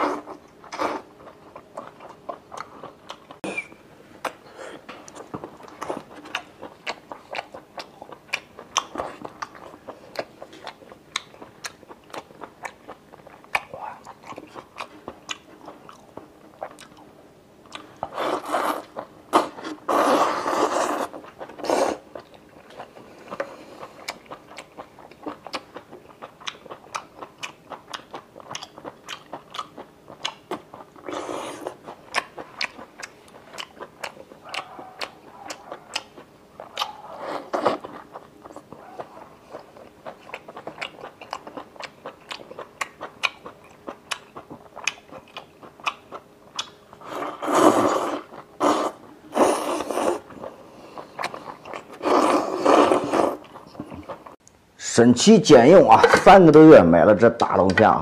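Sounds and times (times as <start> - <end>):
chewing rubbery food: 0.0 - 54.4.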